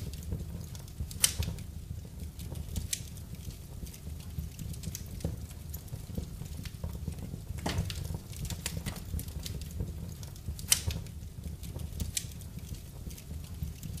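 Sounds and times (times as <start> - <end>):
low rumble of flames: 0.0 - 14.0
wood fire snaps and pops: 0.0 - 14.0.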